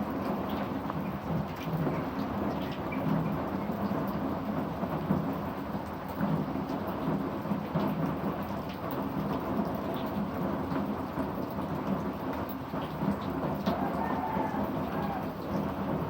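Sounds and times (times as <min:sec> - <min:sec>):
heavy rain falling: 0:00.0 - 0:16.0
raindrops ticking on surfaces: 0:00.0 - 0:16.0.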